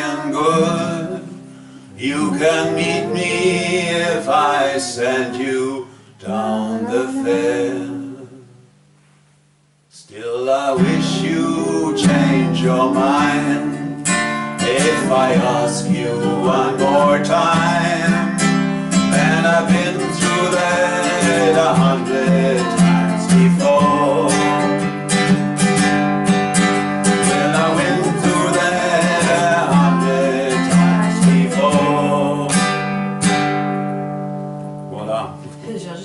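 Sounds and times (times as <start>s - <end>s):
acoustic guitar strumming: 0.0s - 8.2s, 10.6s - 35.6s.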